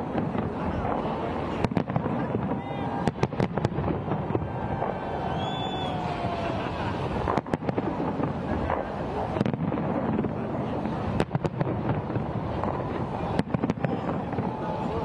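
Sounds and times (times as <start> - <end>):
firework shells bursting: 0.0 - 14.8
crowd voices: 0.0 - 15.0.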